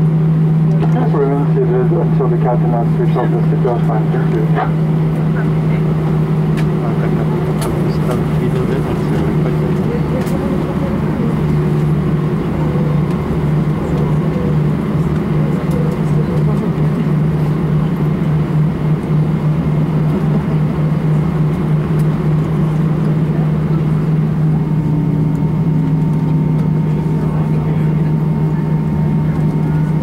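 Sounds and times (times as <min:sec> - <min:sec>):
idling jet engines hum: 0:00.0 - 0:30.0
low rumble: 0:00.0 - 0:30.0.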